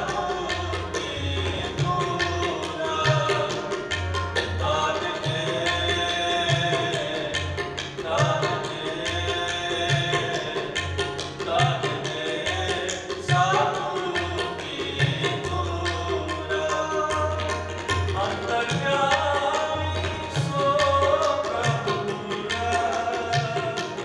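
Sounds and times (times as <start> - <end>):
man singing: 0.0 - 3.9, 4.5 - 24.0
harmoniums playing melody: 0.0 - 24.0.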